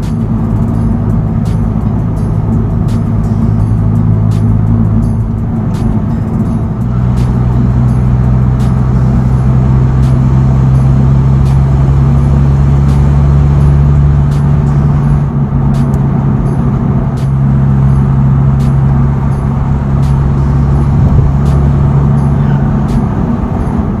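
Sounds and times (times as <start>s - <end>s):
car exhaust loud low drone: 0.0s - 24.0s.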